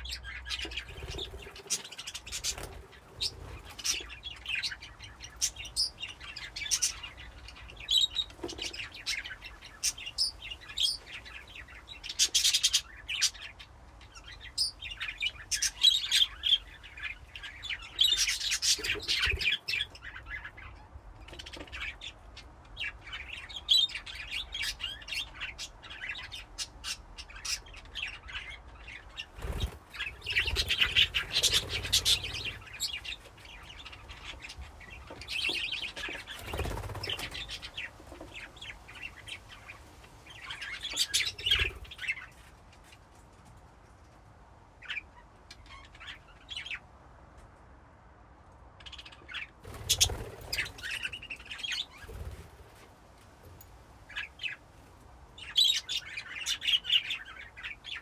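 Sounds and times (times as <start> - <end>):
budgerigars chirping: 0.0 - 22.2, 22.8 - 42.3, 49.0 - 52.4, 55.4 - 58.0.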